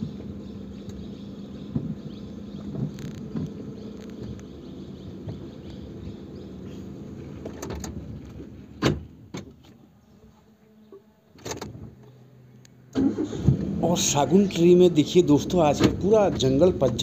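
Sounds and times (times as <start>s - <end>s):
car engine running: 0.0s - 9.3s, 11.5s - 17.0s.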